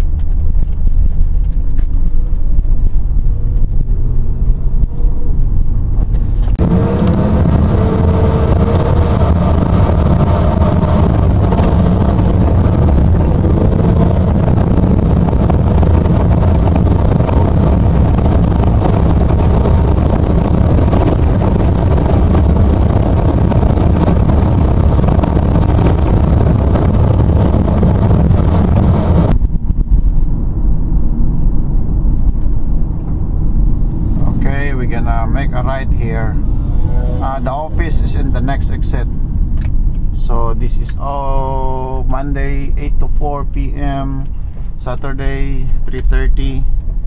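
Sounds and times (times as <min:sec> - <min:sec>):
vehicle driving rumble: 0:00.0 - 0:47.0.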